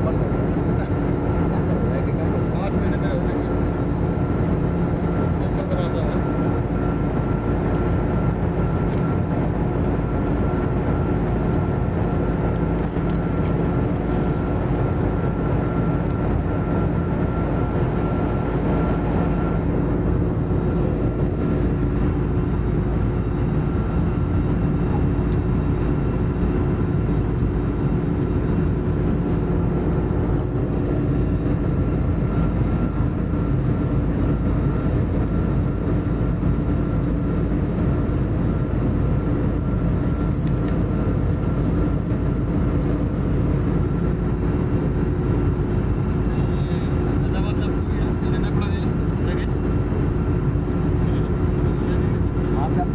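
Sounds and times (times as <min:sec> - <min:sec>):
jet engine and airflow rumble: 0:00.0 - 0:52.9.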